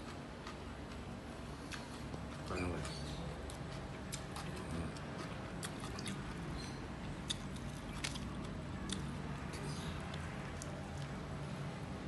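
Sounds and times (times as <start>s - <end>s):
chewing: 0.0s - 6.6s, 7.2s - 11.6s
steady low hum: 0.0s - 12.0s.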